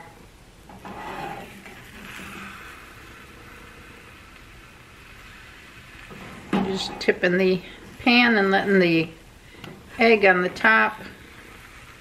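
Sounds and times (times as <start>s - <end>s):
omelet sizzling in a frying pan: 0.0s - 12.0s.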